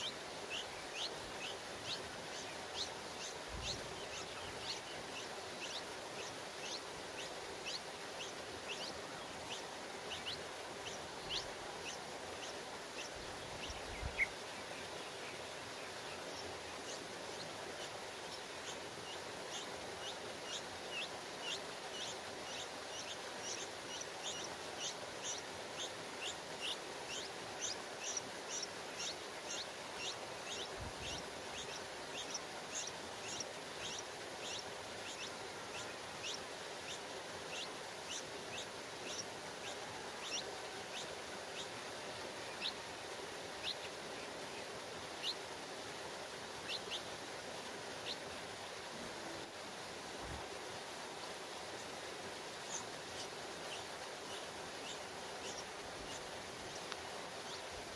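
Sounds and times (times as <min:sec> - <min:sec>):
nestlings peeping: 0:00.0 - 0:45.9, 0:46.5 - 0:48.7, 0:51.6 - 0:57.9
background hiss: 0:00.0 - 0:57.9.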